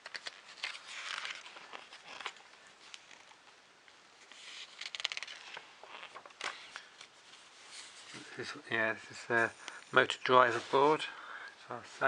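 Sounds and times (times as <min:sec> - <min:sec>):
magazine pages rustling: 0:00.0 - 0:08.5, 0:09.2 - 0:11.1.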